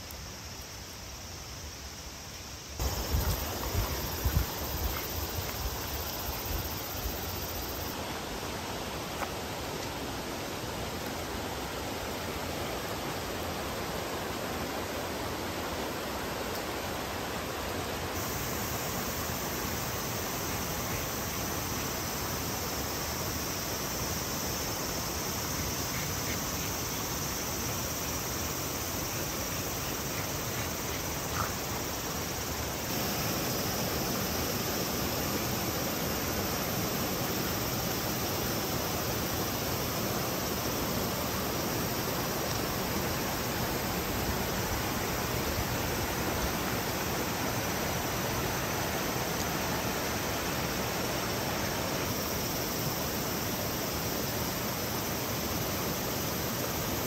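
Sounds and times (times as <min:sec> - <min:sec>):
stream rushing over rocks: 0:02.8 - 0:57.0.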